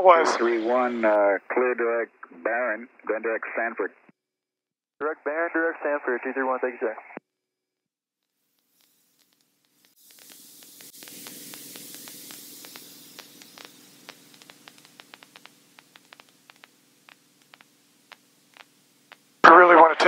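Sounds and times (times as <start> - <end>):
radio static with crackling clicks: 0.0 - 4.1, 5.0 - 7.2, 8.2 - 20.0.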